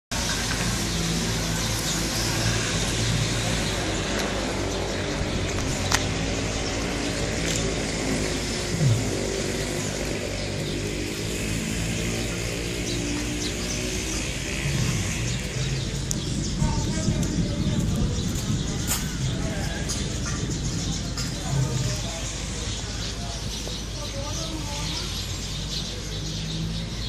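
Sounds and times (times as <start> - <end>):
vehicle engines humming: 0.1 - 27.0.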